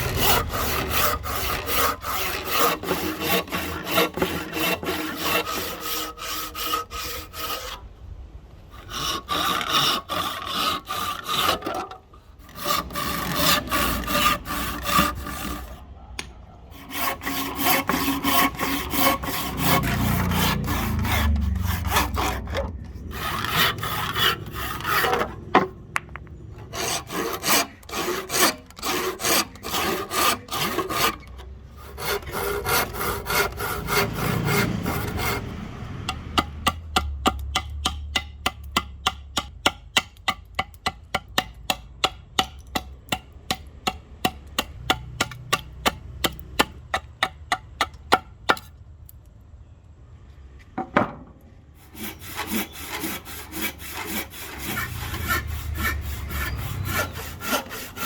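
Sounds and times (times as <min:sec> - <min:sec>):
hand saw cutting wood: 0:00.0 - 0:07.8, 0:08.7 - 0:15.8, 0:16.7 - 0:25.8, 0:26.6 - 0:48.7, 0:51.8 - 0:58.0.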